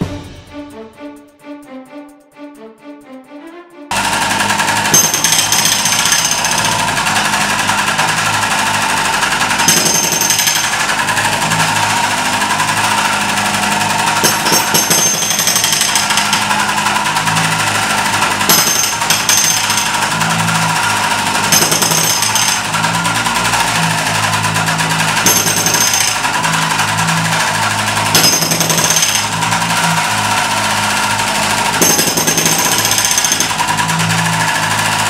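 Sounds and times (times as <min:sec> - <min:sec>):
hydraulic breaker hammering tiles: 0:03.9 - 0:35.0.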